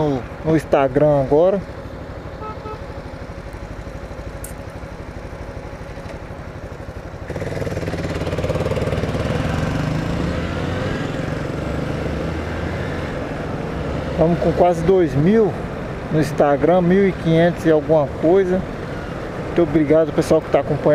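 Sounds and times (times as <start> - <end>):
motorcycle engine: 0.0 - 20.9.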